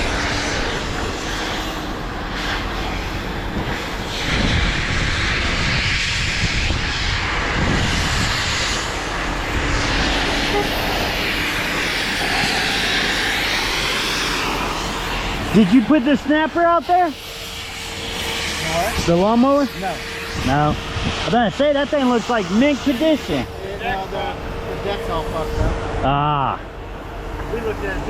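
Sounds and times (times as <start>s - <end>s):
rushing hiss: 0.0s - 25.9s
engine-like rumble: 0.0s - 28.0s.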